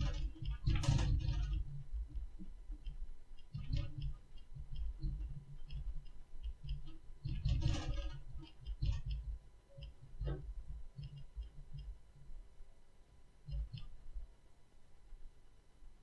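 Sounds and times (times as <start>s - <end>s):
room creaking and clicking: 0.0s - 12.5s, 13.4s - 14.4s.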